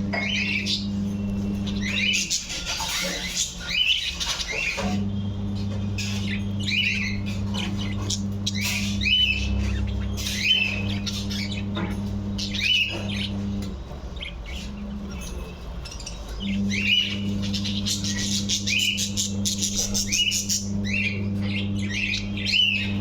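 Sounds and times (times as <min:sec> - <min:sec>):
budgerigars squawking and chirping: 0:00.0 - 0:23.0
steady low hum: 0:00.0 - 0:23.0.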